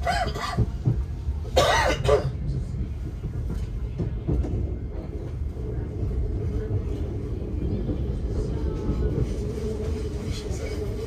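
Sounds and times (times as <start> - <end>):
electric train rumbling on track: 0.0 - 11.0.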